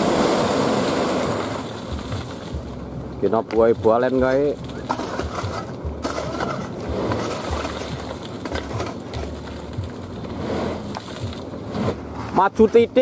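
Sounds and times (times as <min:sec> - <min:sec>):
dump truck engine running: 0:00.0 - 0:13.0
gravel clattering onto road: 0:00.0 - 0:13.0.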